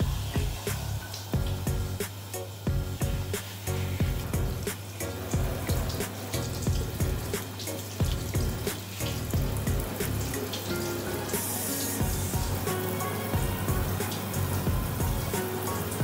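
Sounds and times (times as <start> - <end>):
background music with steady beat: 0.0 - 16.0
shower water spraying: 0.0 - 16.0.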